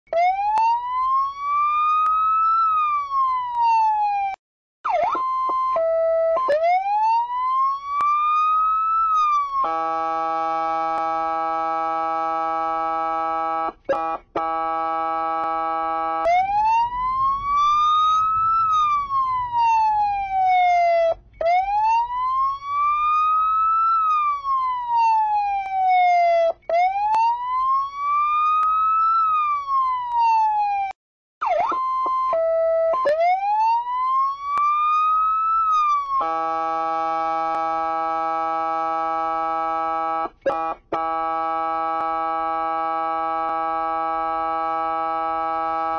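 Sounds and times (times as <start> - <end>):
police siren wailing: 0.1 - 45.9.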